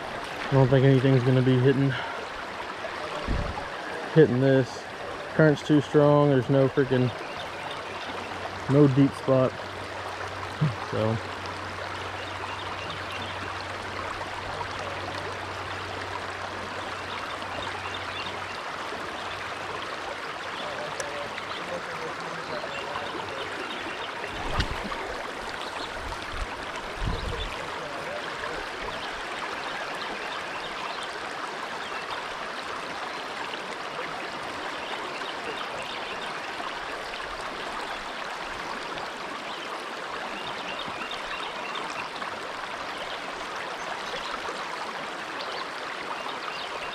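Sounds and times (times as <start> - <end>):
creek rushing over rocks: 0.0 - 46.9.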